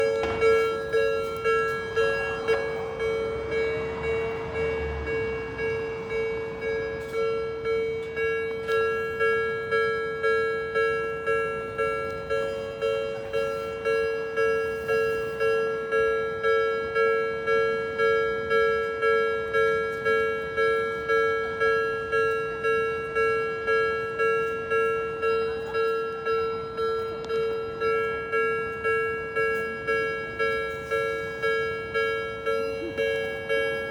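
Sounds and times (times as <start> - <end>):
level crossing warning bell: 0.0 - 33.9.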